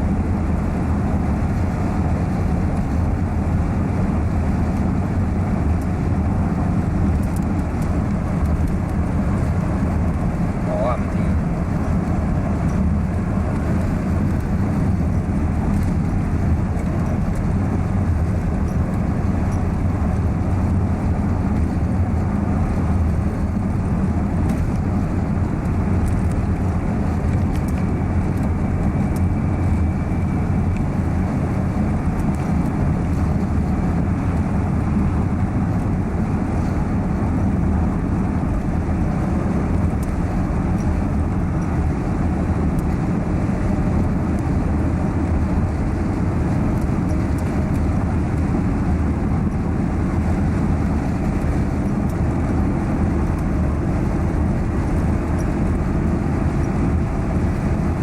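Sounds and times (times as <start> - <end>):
moving car rumble: 0.0 - 58.0.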